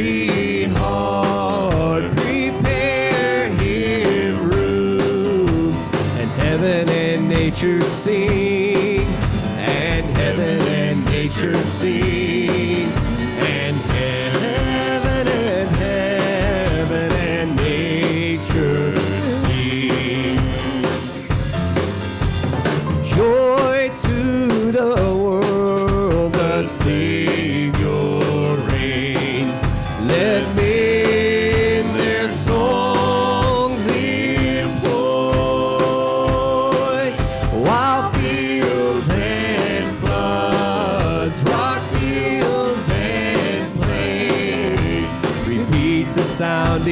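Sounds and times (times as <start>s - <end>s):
person singing: 0.0s - 21.9s, 23.0s - 46.9s
drum kit beat: 0.0s - 46.9s
worship band playing: 0.0s - 46.9s.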